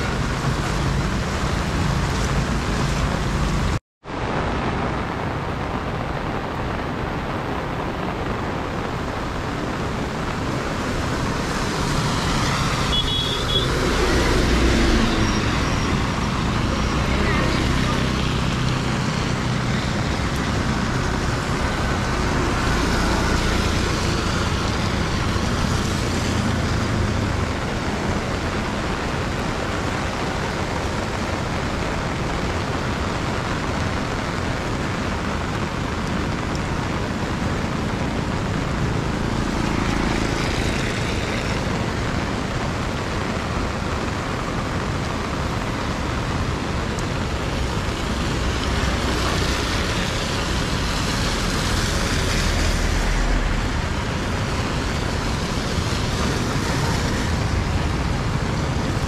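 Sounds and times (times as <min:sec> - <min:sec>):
road traffic hiss in rain: 0:00.0 - 0:59.0.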